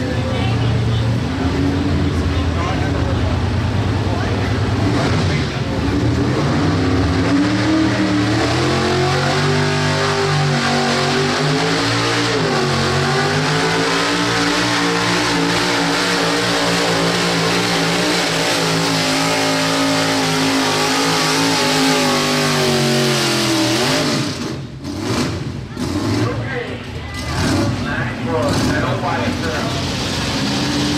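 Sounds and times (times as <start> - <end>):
pickup engine revving hard: 4.7 - 26.5, 27.2 - 30.9.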